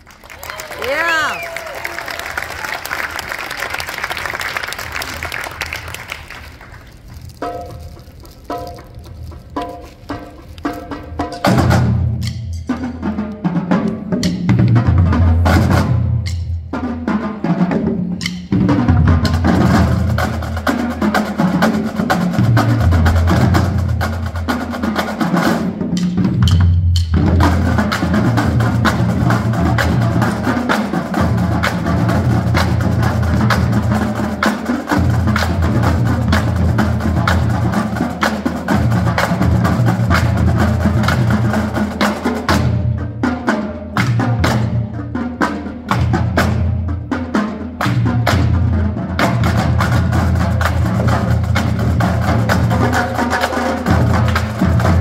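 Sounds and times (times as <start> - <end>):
bass drums: 6.9 - 55.0
marching snare drums: 7.4 - 55.0.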